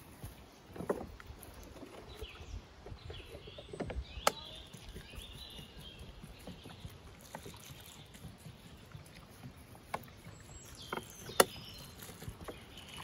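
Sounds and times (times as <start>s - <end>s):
birds chirping faintly: 0.0s - 13.0s
knocks and scraping of hand work: 0.0s - 13.0s.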